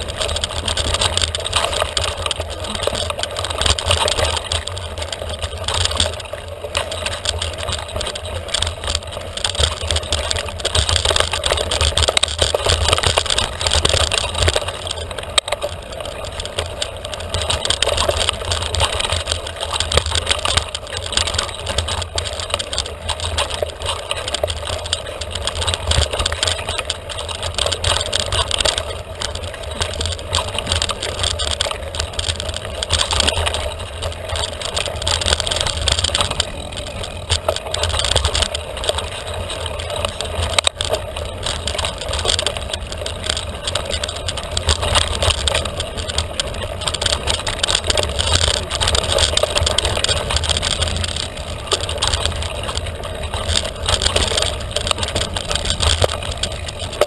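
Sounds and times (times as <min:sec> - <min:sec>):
bike tyres rattling over ground: 0:00.0 - 0:57.0
wind rumble on microphone: 0:00.0 - 0:57.0.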